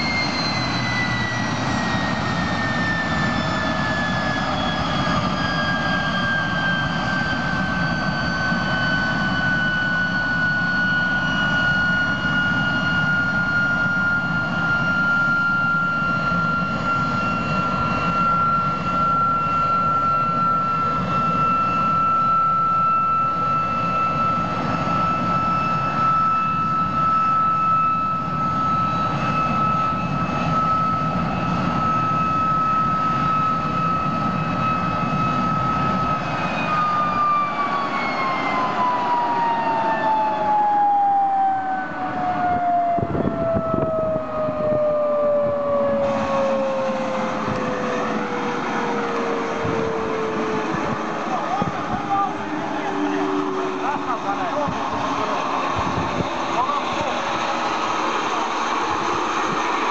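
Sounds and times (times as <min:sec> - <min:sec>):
turbojet engine rush and whine: 0:00.0 - 0:59.9.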